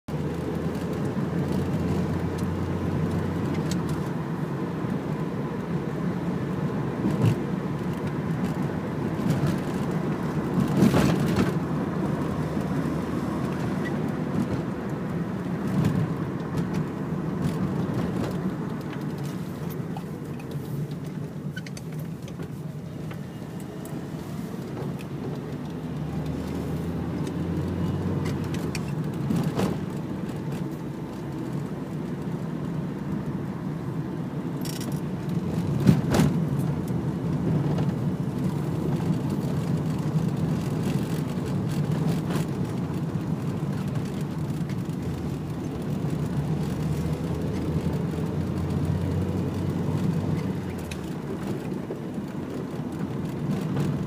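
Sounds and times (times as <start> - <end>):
road noise: 0.0 - 54.0
car engine drone: 0.1 - 54.0.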